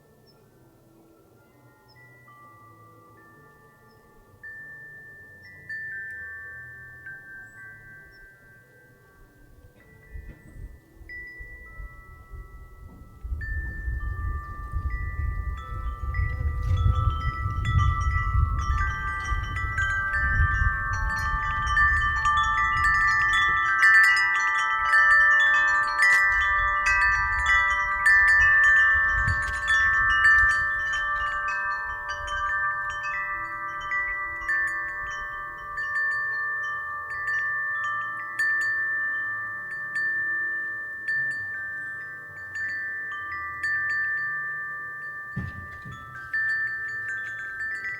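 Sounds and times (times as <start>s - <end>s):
low rush of wind: 0.0s - 47.9s
wind chime ringing: 0.0s - 47.9s.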